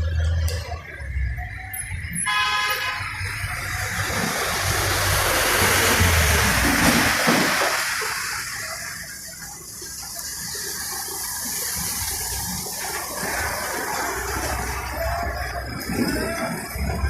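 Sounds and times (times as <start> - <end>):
heavy rain falling: 2.5 - 17.0
running water: 2.5 - 17.0.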